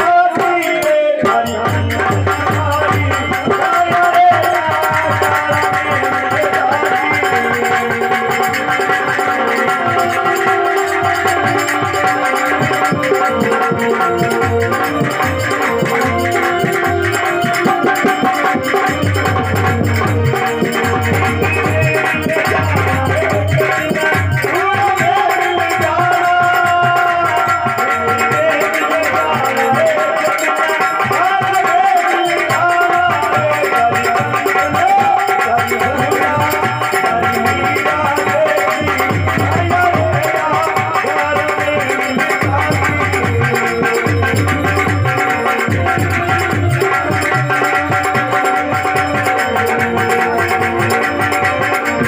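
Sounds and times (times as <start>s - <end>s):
hand drum: 0.0s - 52.0s
harmonium music: 0.0s - 52.0s
man singing: 0.0s - 52.0s
rattling percussion: 0.0s - 52.0s.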